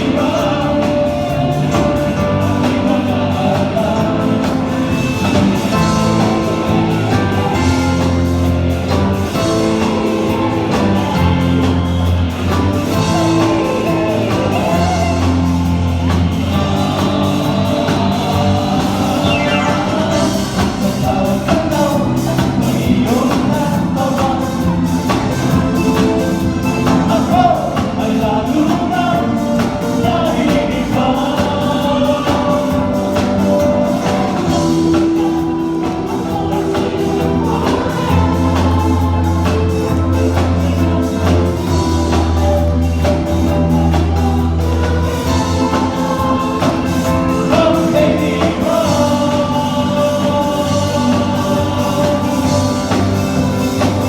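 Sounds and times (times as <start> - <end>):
live band playing disco: 0.0 - 54.0
people singing: 0.0 - 54.0.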